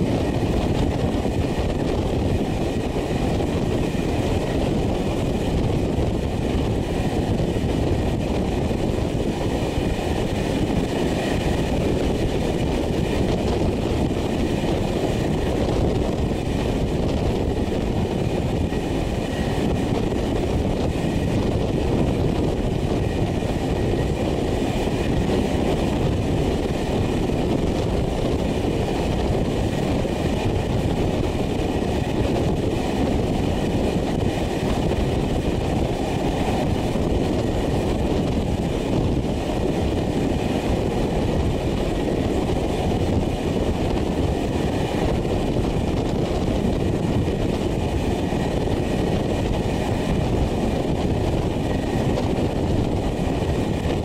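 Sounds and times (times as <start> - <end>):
train rolling along track: 0.0 - 54.0.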